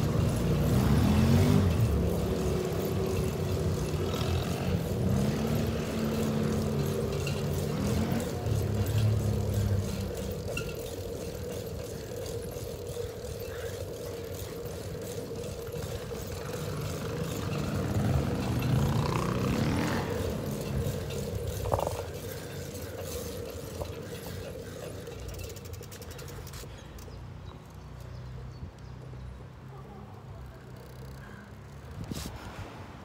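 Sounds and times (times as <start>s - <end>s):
vehicle passing: 0.0s - 26.8s
bicycle road and wind noise: 0.0s - 33.0s.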